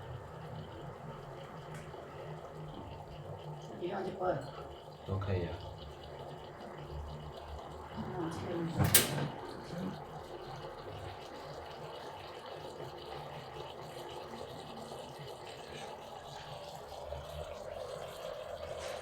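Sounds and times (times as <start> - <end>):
coffee running into cup: 0.0 - 19.0
stovetop espresso maker hissing: 0.0 - 19.0.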